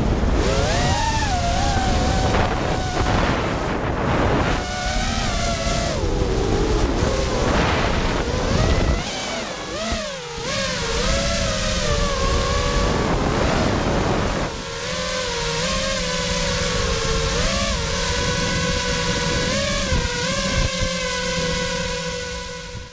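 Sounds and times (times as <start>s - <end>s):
quadcopter motors whining: 0.0s - 22.9s
wind rush on microphone: 0.0s - 22.9s.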